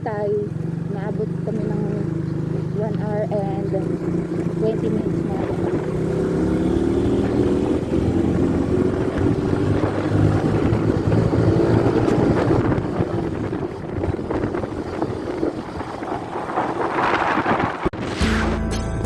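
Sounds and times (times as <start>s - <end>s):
vehicle engine running: 0.0s - 18.8s
wind buffeting microphone: 0.2s - 18.1s.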